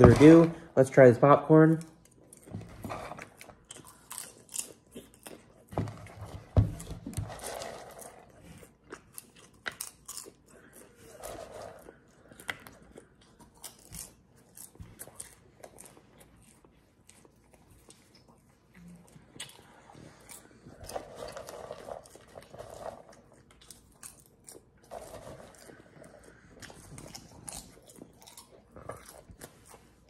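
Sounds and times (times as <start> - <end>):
person chewing popcorn: 1.7 - 30.0.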